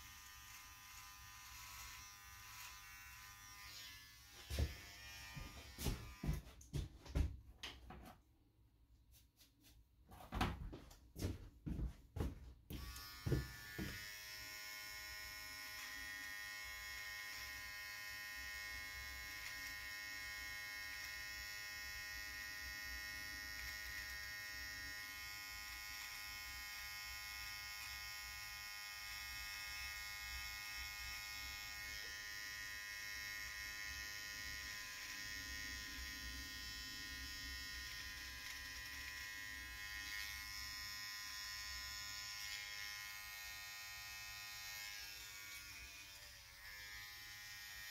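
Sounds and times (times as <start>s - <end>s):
cordless trimmer buzzing: 0.0s - 6.8s, 12.7s - 47.9s.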